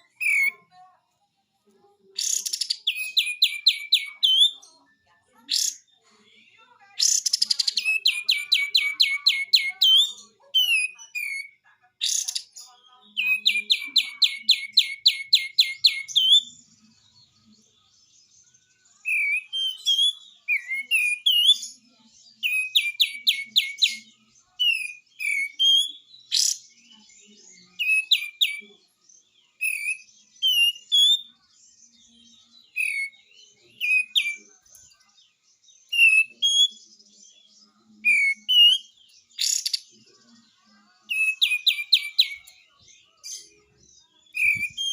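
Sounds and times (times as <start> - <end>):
bulbul singing: 0.0 - 0.7, 2.2 - 4.7, 7.0 - 39.8, 41.1 - 44.9.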